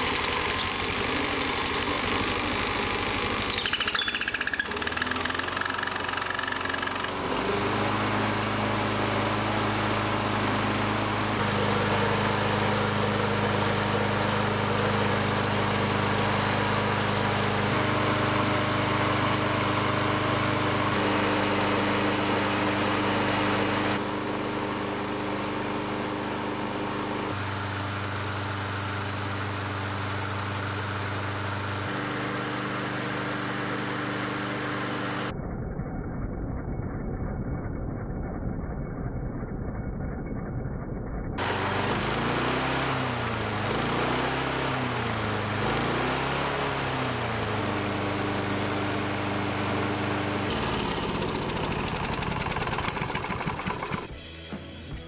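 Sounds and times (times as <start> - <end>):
small mower engine running: 0.0 - 35.3, 41.4 - 54.4.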